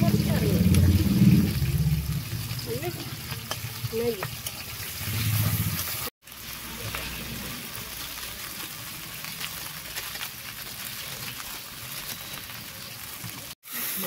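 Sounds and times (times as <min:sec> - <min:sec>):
curry sizzling in a pan: 0:00.0 - 0:14.0.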